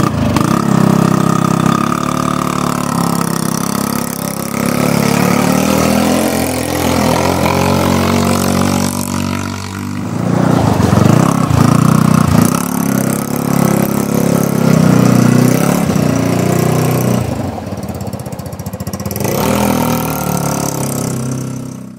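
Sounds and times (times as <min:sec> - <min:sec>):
dune buggy engine revving: 0:00.0 - 0:21.9.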